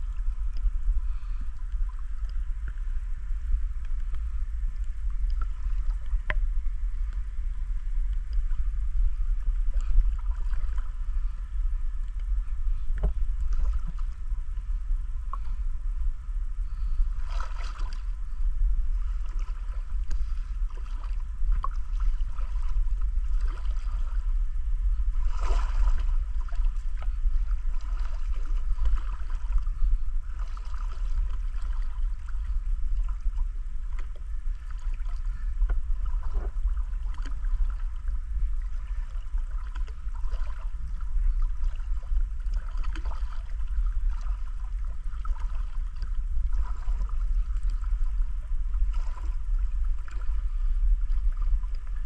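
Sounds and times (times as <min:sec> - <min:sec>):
low rumble: 0:00.0 - 0:52.0
river water flowing and gurgling: 0:00.0 - 0:52.0.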